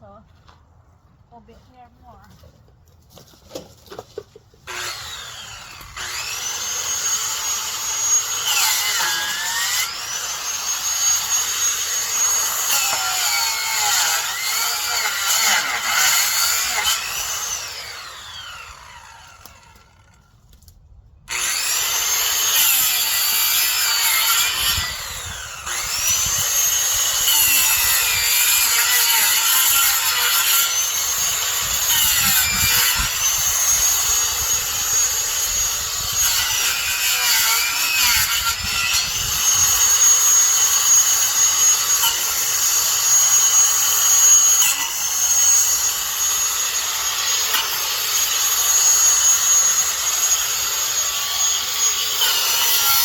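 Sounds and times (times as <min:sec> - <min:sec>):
electric saw cutting branches: 0:04.6 - 0:20.4, 0:21.3 - 0:53.0.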